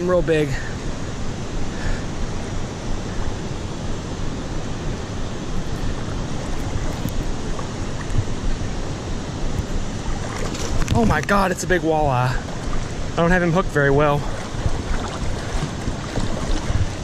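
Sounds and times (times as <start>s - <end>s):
river current rushing: 0.0s - 17.0s
wind buffeting microphone: 0.9s - 17.0s.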